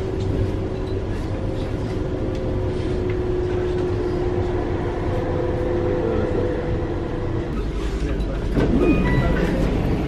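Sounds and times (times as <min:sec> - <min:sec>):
train interior rumble: 0:00.0 - 0:10.0
train whine: 0:00.0 - 0:10.0.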